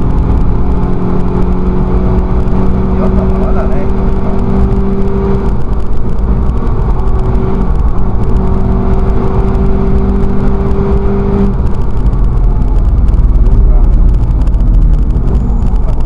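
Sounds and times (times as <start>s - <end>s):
race car engine at speed: 0.0s - 16.0s
road and wind rumble: 0.0s - 16.0s.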